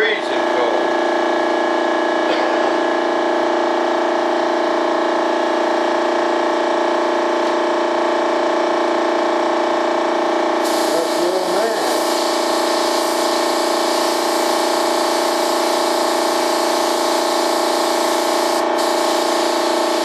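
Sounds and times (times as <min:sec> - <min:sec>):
steady machine drone: 0:00.0 - 0:20.0.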